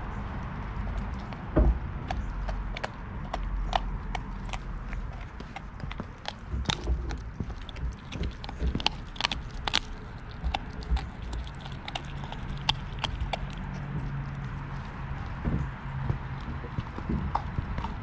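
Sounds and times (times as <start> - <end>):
puppy chewing raw fish: 0.0 - 18.0
teeth clicking on bone: 0.0 - 18.0.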